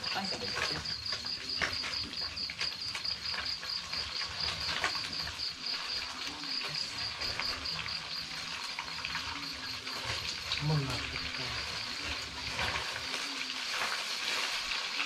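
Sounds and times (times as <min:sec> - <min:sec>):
fire crackling: 0:00.0 - 0:15.0
fish frying in oil: 0:00.0 - 0:15.0
insect trilling: 0:00.0 - 0:15.0.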